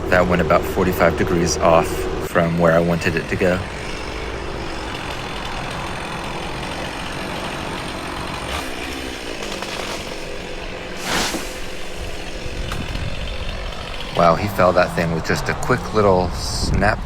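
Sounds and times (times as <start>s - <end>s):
chainsaw running: 0.0s - 17.0s.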